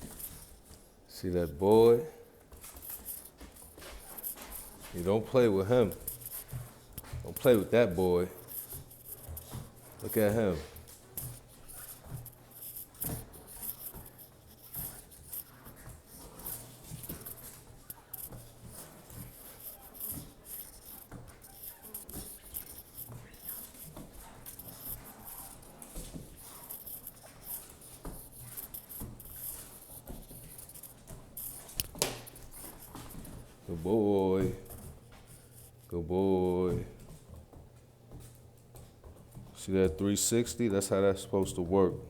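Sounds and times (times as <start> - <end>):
puppy scuffling and scratching: 0.0 - 35.9, 36.5 - 41.6.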